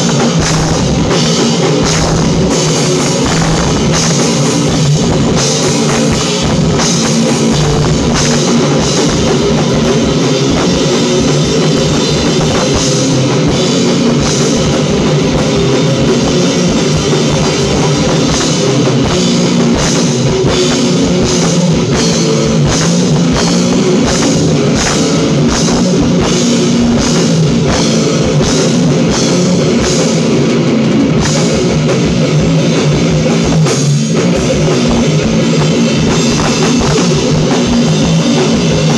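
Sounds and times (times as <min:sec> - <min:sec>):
drum kit and cymbal hits: 0:00.0 - 0:38.9
electric guitar: 0:00.0 - 0:38.9.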